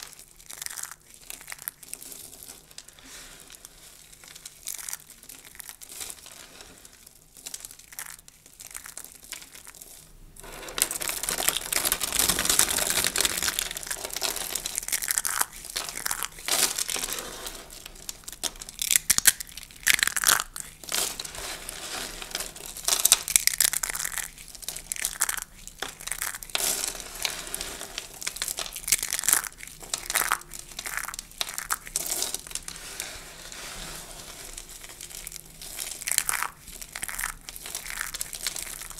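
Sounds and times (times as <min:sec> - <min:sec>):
soap shavings crunching: 0:00.0 - 0:38.9.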